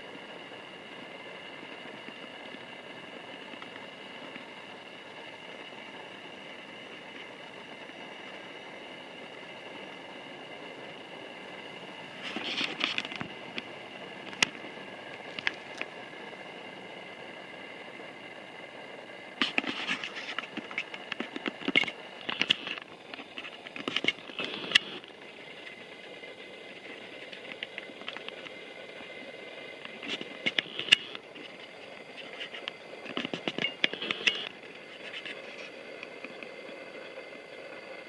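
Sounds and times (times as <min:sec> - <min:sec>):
electric train whine: 0:00.0 - 0:38.0.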